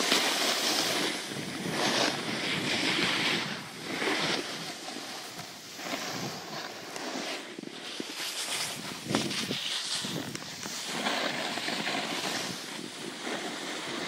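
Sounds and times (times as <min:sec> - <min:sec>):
skis scraping over snow: 0:00.0 - 0:14.0
wind buffeting microphone: 0:00.8 - 0:14.0.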